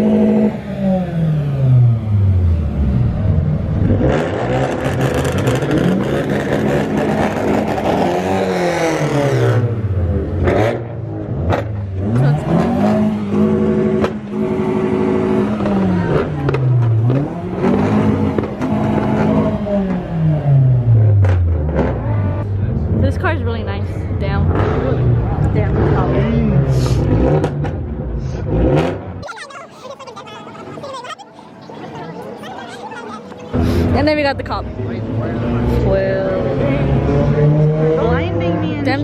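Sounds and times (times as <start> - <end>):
car engine revving: 0.0 - 23.6, 24.2 - 29.2, 33.5 - 39.0.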